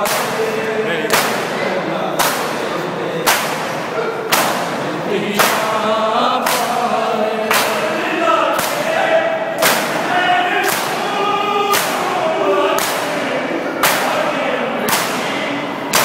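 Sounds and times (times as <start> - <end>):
men chanting a lament: 0.0 - 16.0
men slapping chests in unison: 0.0 - 16.0.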